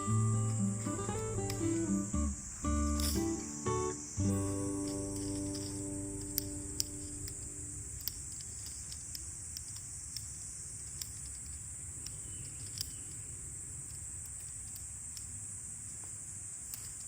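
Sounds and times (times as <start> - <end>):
high hiss: 0.0 - 17.0
sharp ticks and crackles: 0.0 - 17.0.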